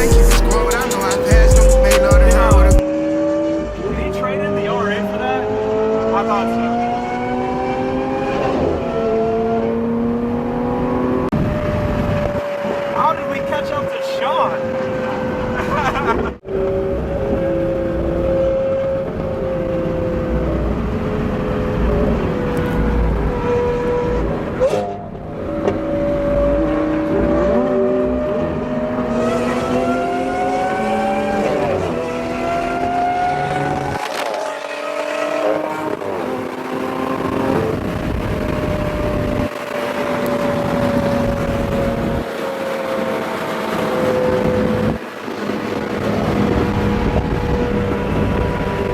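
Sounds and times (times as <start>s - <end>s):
car engine cruising: 0.0s - 48.9s
tyre and road noise: 0.0s - 48.9s.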